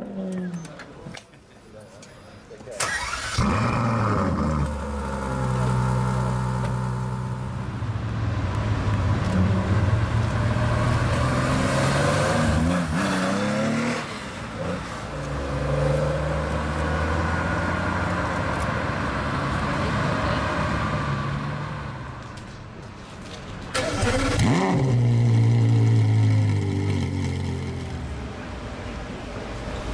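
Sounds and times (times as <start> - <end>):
car engine idling and revving: 3.4 - 22.4, 23.8 - 29.2.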